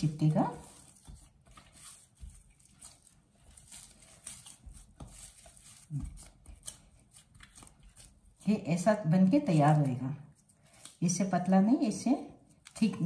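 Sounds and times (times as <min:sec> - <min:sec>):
dough squishing: 0:00.0 - 0:13.0.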